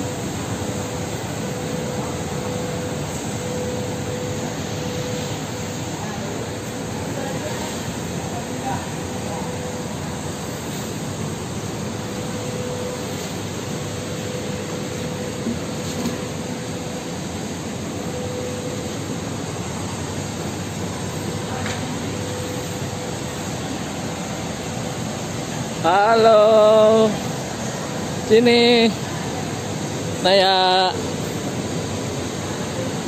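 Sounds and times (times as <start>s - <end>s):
constant hum: 0.0s - 33.0s.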